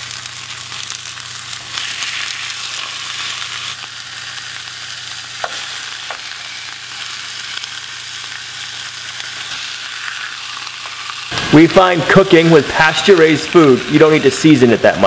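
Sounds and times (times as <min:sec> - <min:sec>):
pork chops sizzling in a pan: 0:00.0 - 0:15.0.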